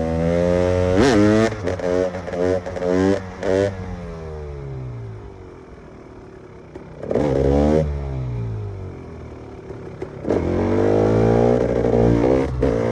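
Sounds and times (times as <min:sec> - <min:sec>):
two-stroke engine revving: 0:00.0 - 0:05.3, 0:06.7 - 0:08.9, 0:09.6 - 0:12.9.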